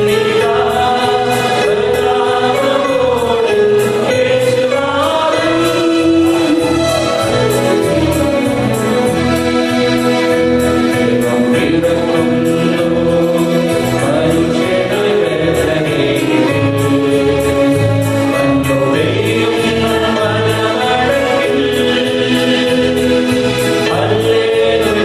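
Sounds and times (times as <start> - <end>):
mixed choir singing: 0.0 - 25.0.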